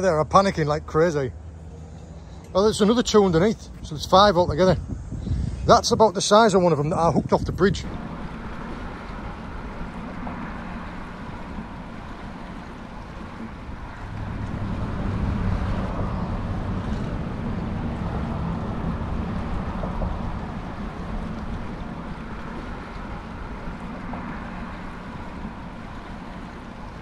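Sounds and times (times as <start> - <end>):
boat motor humming: 0.0 - 27.0
wind and water hiss: 0.0 - 27.0.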